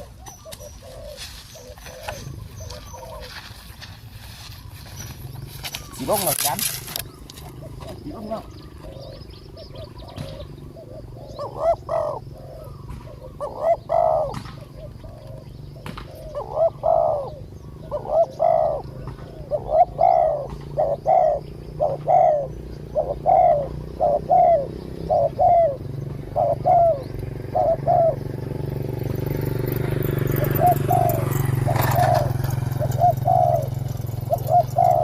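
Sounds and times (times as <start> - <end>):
doves cooing: 0.0 - 35.0.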